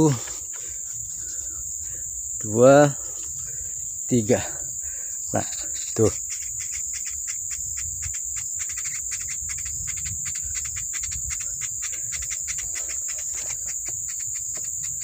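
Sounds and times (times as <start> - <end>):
high insect drone: 0.0 - 15.0
woodpecker nestlings chirping: 0.0 - 15.0.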